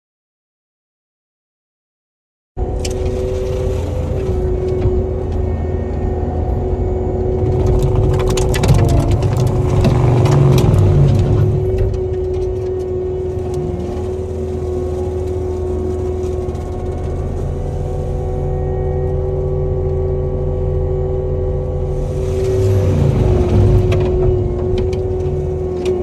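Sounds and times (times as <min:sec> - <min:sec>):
diesel engine running under load: 0:02.6 - 0:26.0.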